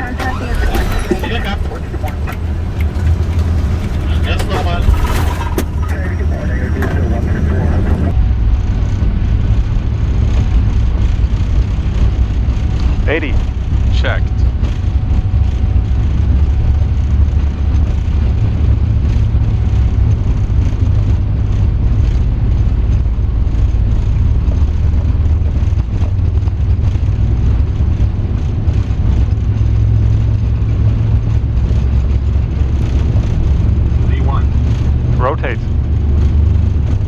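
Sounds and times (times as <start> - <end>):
airframe rolling on runway: 0.0 - 37.0
jet engines rumbling: 0.0 - 37.0.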